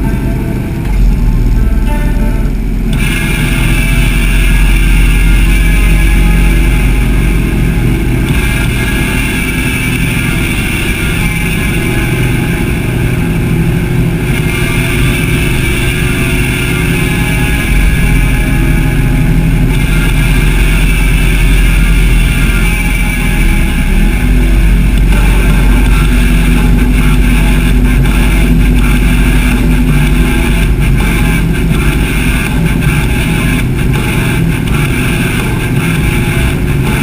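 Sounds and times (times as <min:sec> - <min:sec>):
motorcycle engine rumbling: 0:00.0 - 0:37.0.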